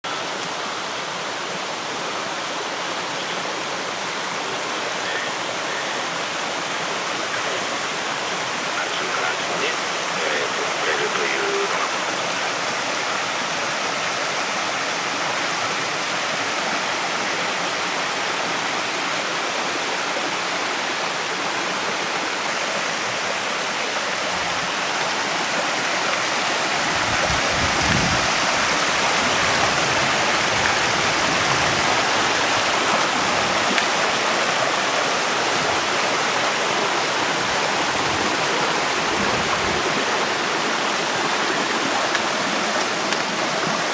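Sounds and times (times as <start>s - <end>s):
stream rushing over stones: 0.0s - 43.9s.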